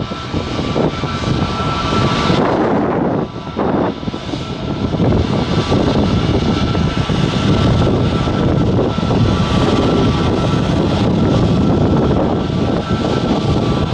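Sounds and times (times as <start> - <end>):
high engine whine: 0.0 - 13.9
jet engines rushing: 0.0 - 13.9.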